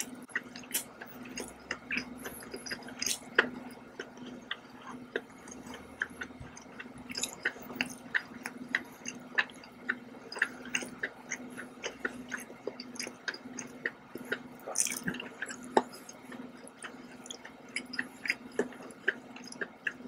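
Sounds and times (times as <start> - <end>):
wet chewing with mouth clicks: 0.0 - 20.0.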